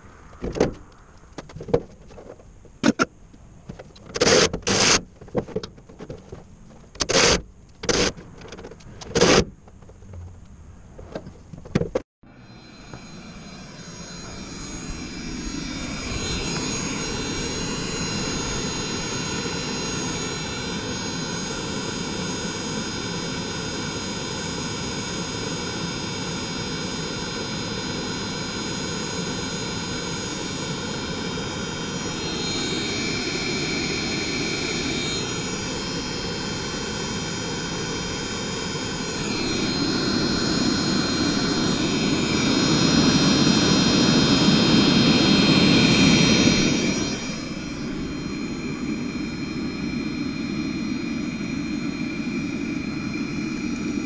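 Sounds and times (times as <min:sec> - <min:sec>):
heater blower rushing with whine: 0:00.0 - 0:54.0.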